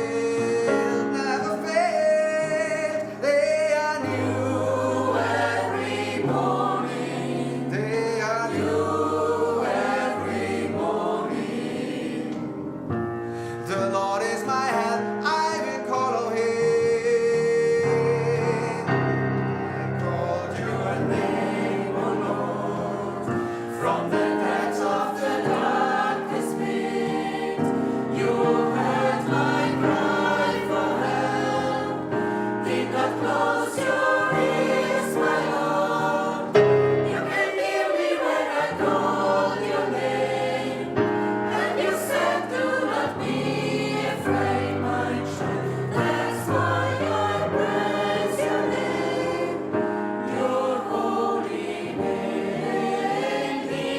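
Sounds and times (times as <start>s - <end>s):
gospel choir singing: 0.0s - 53.9s.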